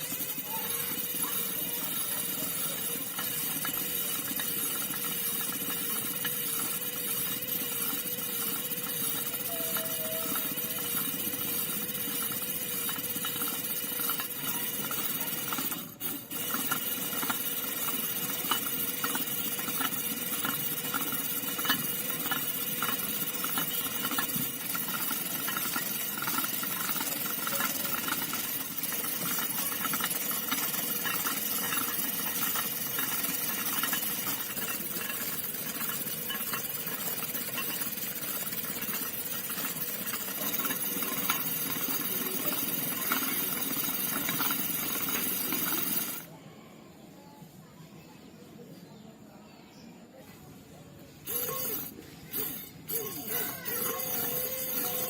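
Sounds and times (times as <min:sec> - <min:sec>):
rattle of small clicks: 0:00.0 - 0:46.3, 0:51.2 - 0:55.0
small electric motor whining: 0:00.0 - 0:46.3, 0:51.2 - 0:55.0.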